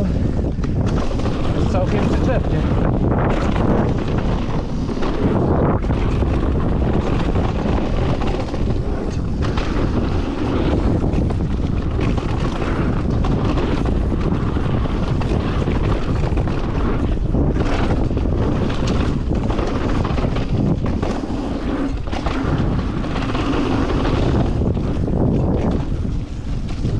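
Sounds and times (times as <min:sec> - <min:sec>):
mountain bike rattling downhill: 0:00.0 - 0:26.9
wheels knocking over roots: 0:00.0 - 0:26.9
wind buffeting microphone: 0:00.0 - 0:26.9.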